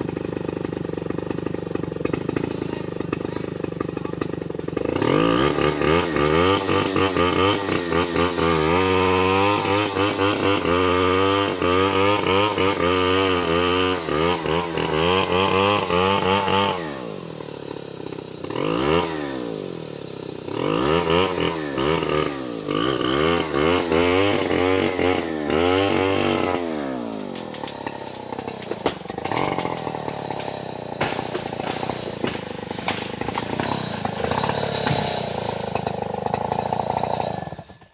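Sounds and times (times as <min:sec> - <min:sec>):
chainsaw revving: 0:00.0 - 0:37.9.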